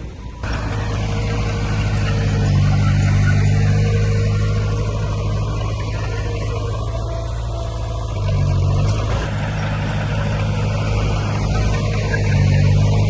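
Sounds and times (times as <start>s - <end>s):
diesel engine running: 0.0s - 13.0s
faint steady whine: 0.0s - 13.0s.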